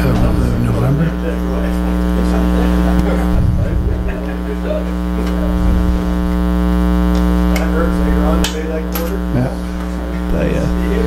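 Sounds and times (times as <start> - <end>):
electrical mains hum: 0.0 - 11.0
faint voices murmuring: 0.0 - 11.0.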